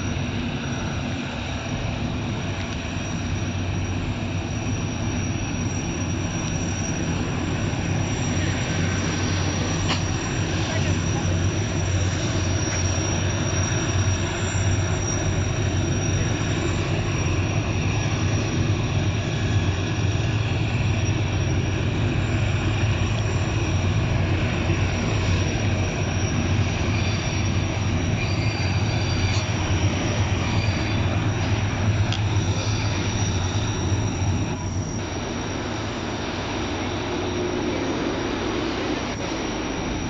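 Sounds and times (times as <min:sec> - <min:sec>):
locomotive engine hum: 0:00.0 - 0:40.0
rail noise: 0:00.0 - 0:40.0.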